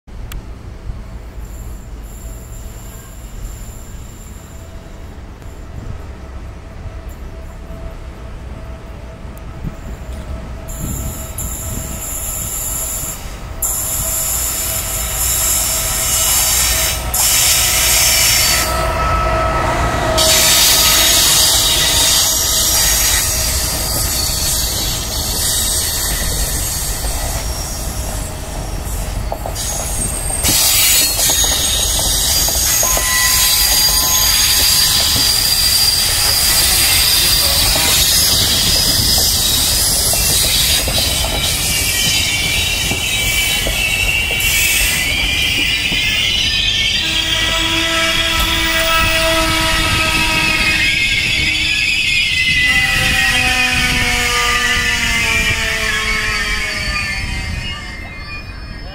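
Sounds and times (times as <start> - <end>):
train rolling past: 0.1 - 58.9
steel wheel squeal: 10.7 - 58.9.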